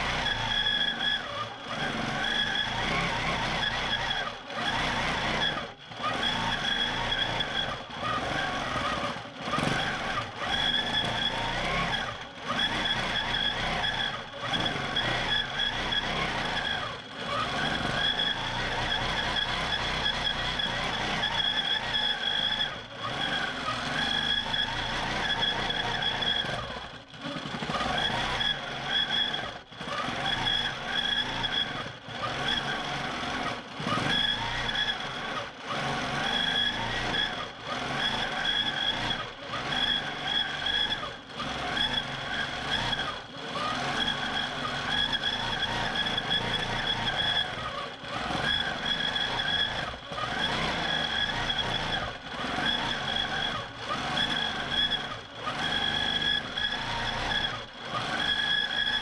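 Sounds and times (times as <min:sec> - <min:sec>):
quilting machine whining: 0:00.0 - 0:59.0.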